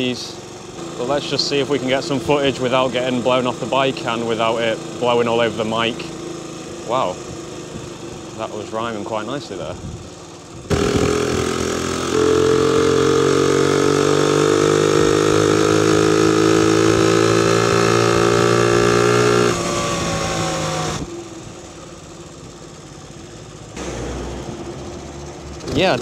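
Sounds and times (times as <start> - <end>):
moped engine running: 0.0 - 26.0.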